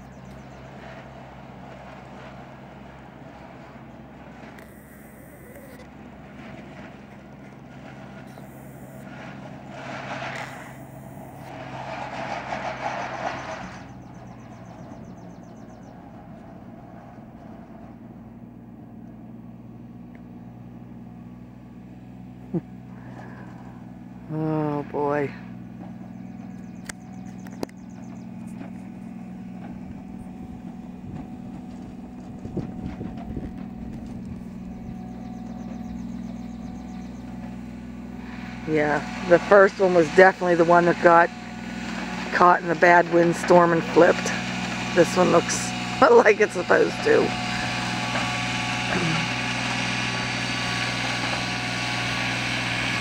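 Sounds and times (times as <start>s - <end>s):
diesel engine humming: 0.0s - 53.0s
harsh rattling from towed rig: 0.0s - 53.0s.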